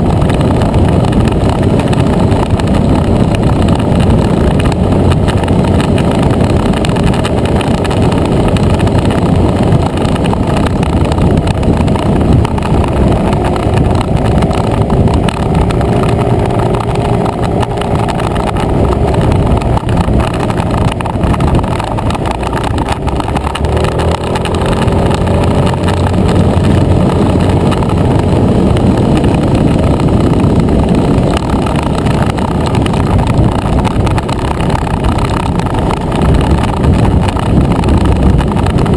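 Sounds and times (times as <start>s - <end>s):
motor scooter engine running: 0.0s - 38.9s
wind and road noise: 0.0s - 38.9s.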